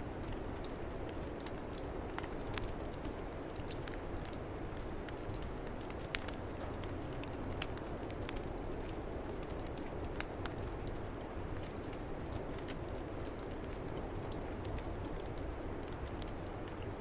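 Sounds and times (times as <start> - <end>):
wood fire crackling and popping: 0.2 - 17.0.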